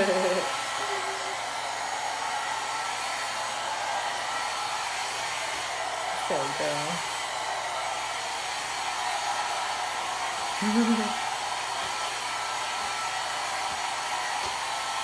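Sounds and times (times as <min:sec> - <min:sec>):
hair dryer blowing: 0:00.0 - 0:15.0.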